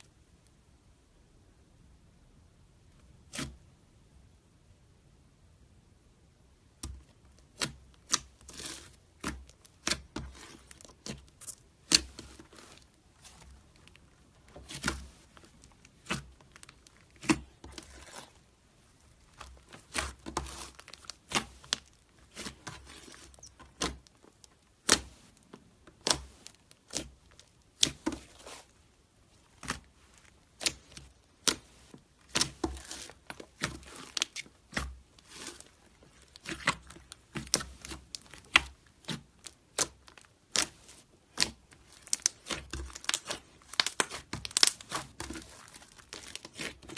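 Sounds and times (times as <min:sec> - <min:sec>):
slime popping and crackling: 0:06.8 - 0:18.4, 0:19.0 - 0:46.9.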